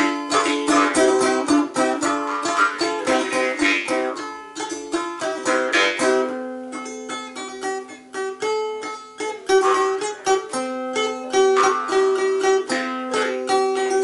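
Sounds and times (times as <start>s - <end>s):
balalaika strumming: 0.0s - 14.0s.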